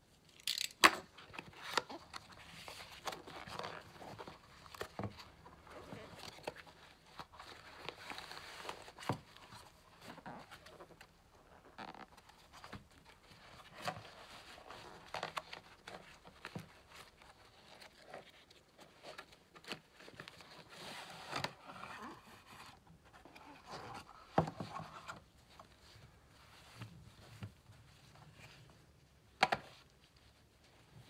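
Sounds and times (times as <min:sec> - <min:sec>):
fabric and cardboard rustling: 0:01.2 - 0:31.0.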